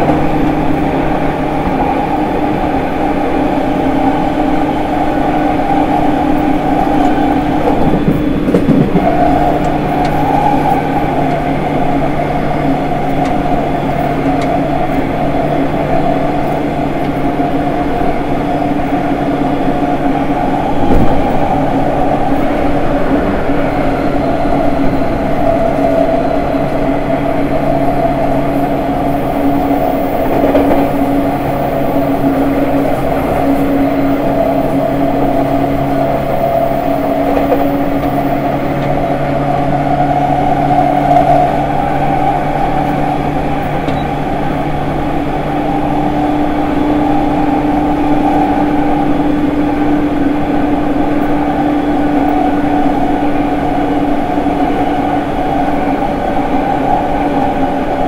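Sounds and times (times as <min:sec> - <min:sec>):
rail rumble: 0:00.0 - 0:58.0
train inverter electric tones: 0:00.0 - 0:58.0.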